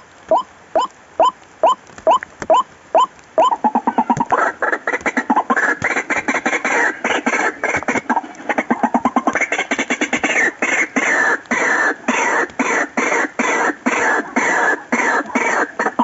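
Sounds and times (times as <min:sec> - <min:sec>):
waterhens harsh croaking calls: 0:00.0 - 0:16.0.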